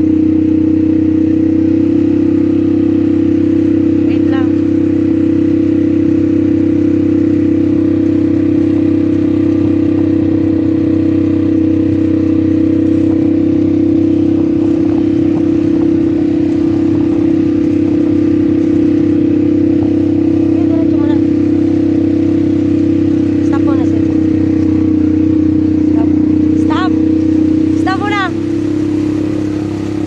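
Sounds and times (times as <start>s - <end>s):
atv engine droning: 0.0s - 30.0s.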